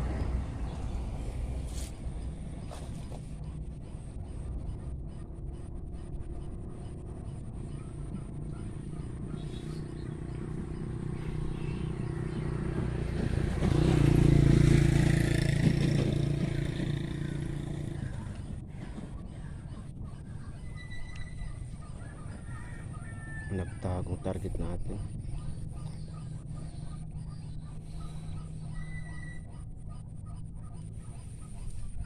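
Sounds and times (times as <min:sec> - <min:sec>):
vehicle engine humming: 0:00.0 - 0:32.0.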